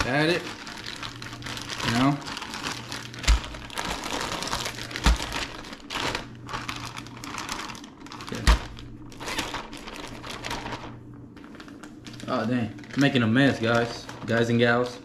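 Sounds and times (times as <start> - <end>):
plastic bag shaken and crinkled: 0.0 - 15.0.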